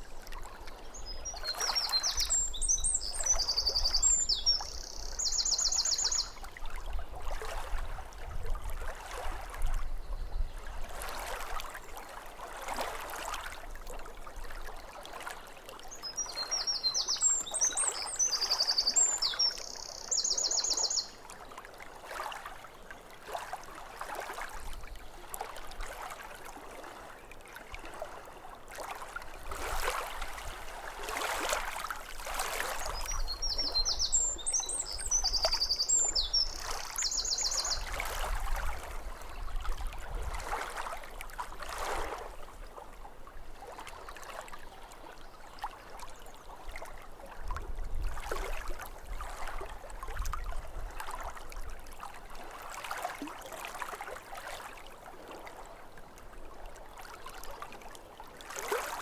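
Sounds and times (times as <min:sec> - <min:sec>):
small waves lapping: 0:00.0 - 0:59.0.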